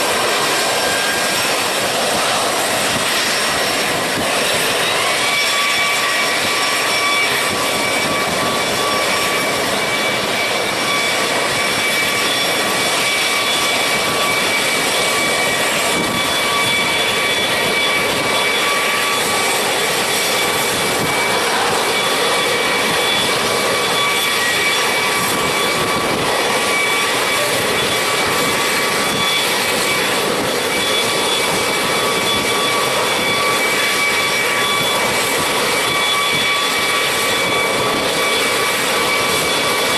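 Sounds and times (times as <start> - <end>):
helicopter turbine engines whining: 0.0 - 39.9.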